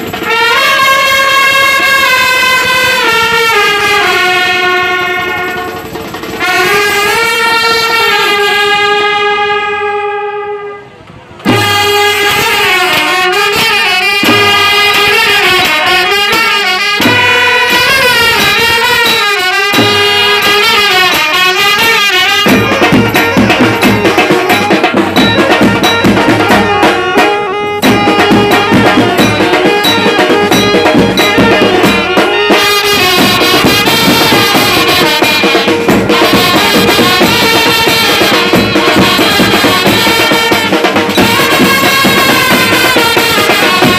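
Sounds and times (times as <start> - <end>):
side drums: 0.0 - 9.6, 11.4 - 43.9
brass band playing: 0.0 - 43.9.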